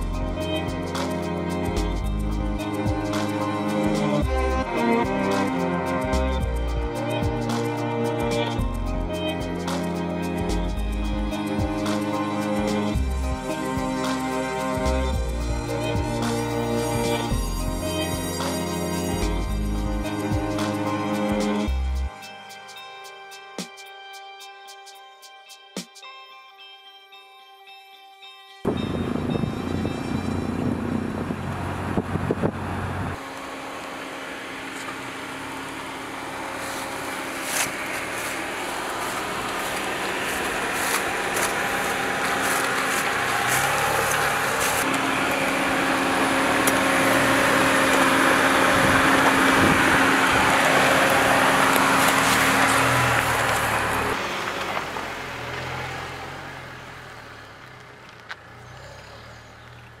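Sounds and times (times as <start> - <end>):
car engine hum and tyre noise: 0.0 - 22.2, 28.7 - 60.0.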